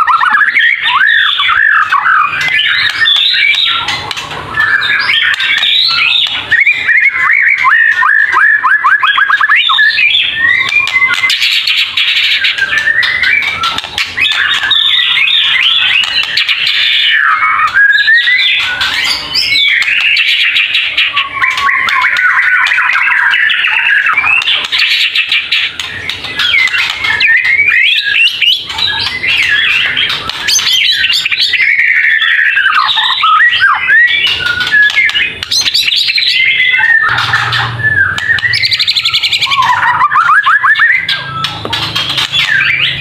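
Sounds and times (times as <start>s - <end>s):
bird singing varied song: 0.0s - 43.0s.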